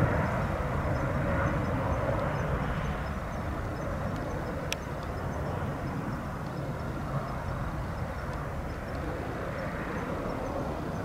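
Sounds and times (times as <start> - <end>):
distant jet engines rumbling: 0.0 - 11.0.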